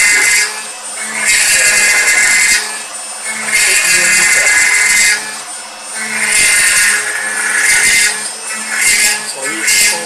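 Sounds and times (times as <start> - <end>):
router spindle whining cut: 0.0 - 10.0.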